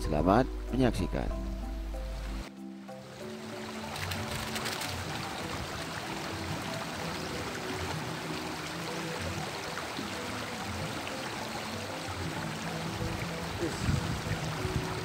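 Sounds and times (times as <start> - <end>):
soft background music: 0.0 - 15.0
stream flowing: 0.5 - 15.0.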